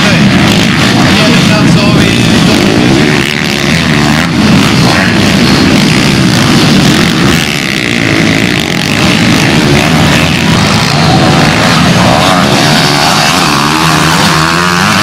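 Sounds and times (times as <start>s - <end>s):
small engines revving: 0.0s - 15.0s.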